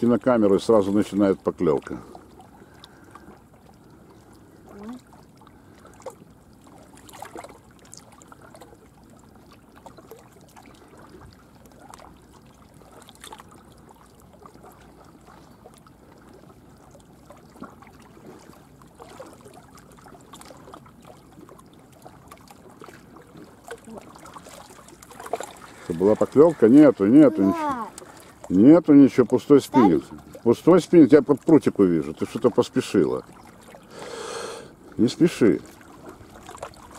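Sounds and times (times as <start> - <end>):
water lapping: 0.0 - 36.9.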